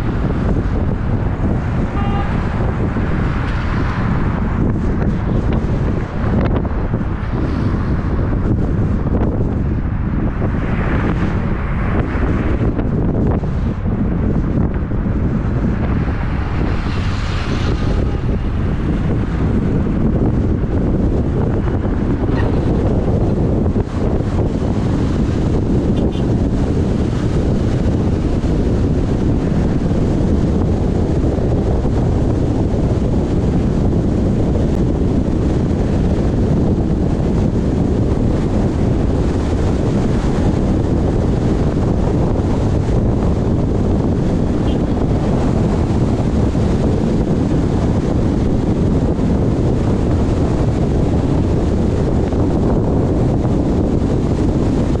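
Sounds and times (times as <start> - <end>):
road noise: 0.0 - 55.0
wind buffeting microphone: 0.0 - 55.0.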